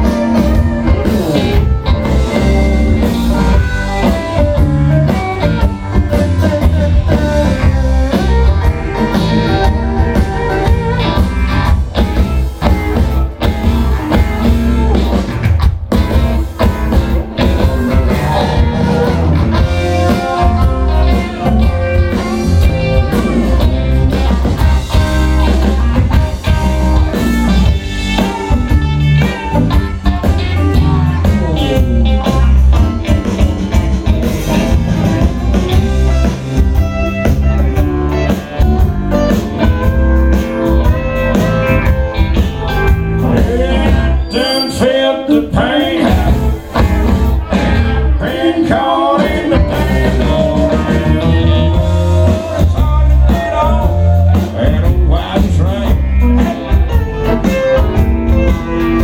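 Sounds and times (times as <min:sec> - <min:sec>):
live country-rock band: 0:00.0 - 0:59.0.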